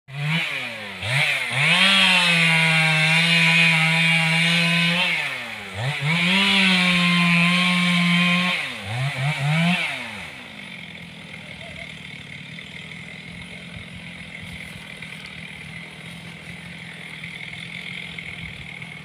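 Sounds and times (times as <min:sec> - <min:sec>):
chainsaw revving: 0:00.1 - 0:19.0.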